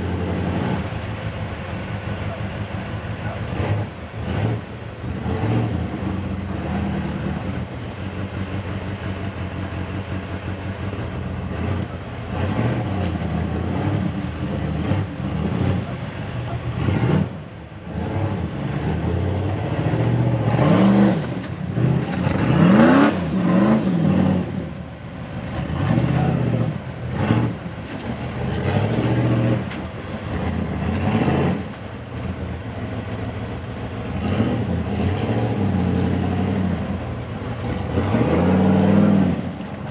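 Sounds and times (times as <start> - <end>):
engine revving: 0.0 - 39.7.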